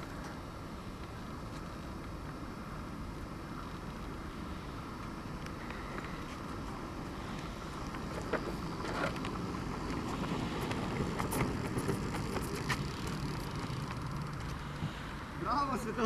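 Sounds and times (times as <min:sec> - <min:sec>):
rolling and wind noise: 0:00.0 - 0:16.0.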